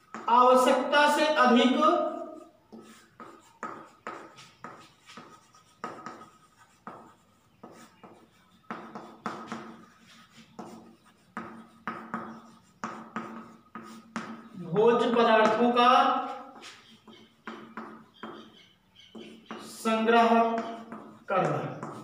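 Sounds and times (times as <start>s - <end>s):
chalk tapping and scraping on chalkboard: 0.0s - 22.0s.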